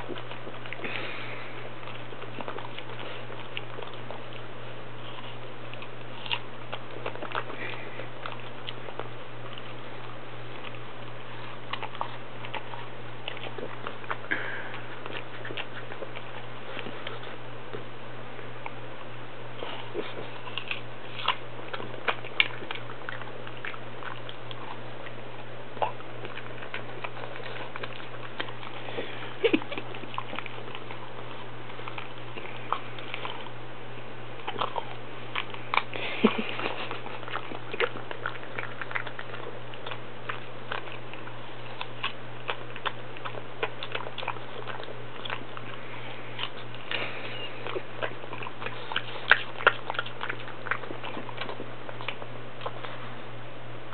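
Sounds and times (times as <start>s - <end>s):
dog crunching apple: 0.0s - 53.9s.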